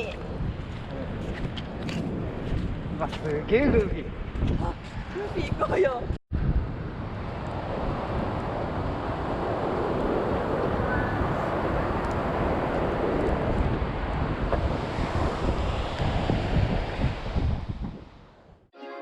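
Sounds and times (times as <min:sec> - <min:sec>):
heavy surf rushing: 0:00.0 - 0:18.4
wind buffeting microphone: 0:00.0 - 0:18.7.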